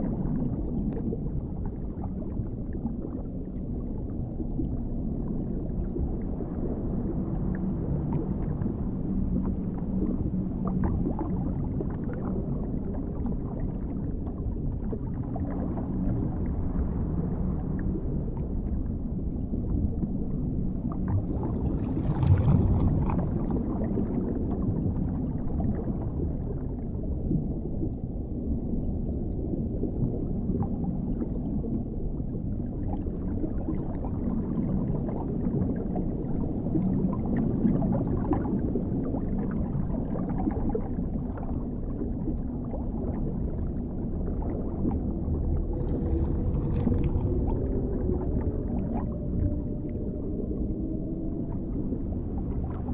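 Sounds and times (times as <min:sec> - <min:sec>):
underwater rumble and gurgling: 0:00.0 - 0:52.9.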